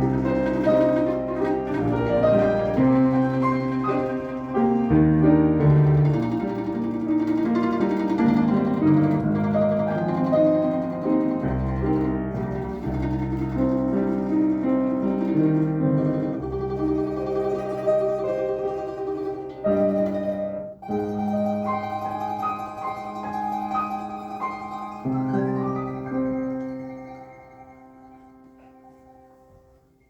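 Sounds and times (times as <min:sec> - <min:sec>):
classical duo with piano: 0:00.0 - 0:30.0.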